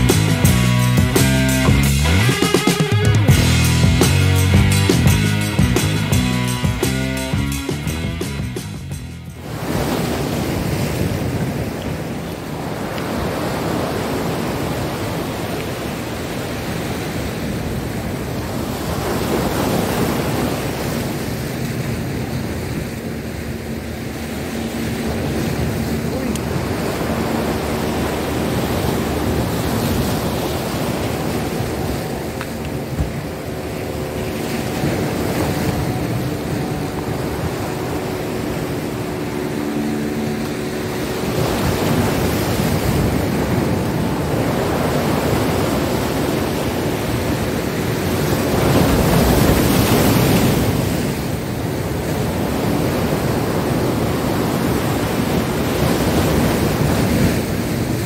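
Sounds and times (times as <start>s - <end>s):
wind buffeting microphone: 8.3s - 58.0s
surf breaking over rocks: 9.3s - 58.0s.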